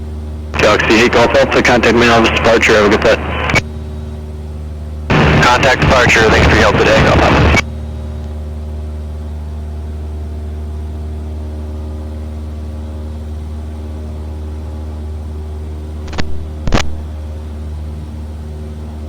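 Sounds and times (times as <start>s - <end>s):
airplane engine droning in cockpit: 0.0s - 19.0s.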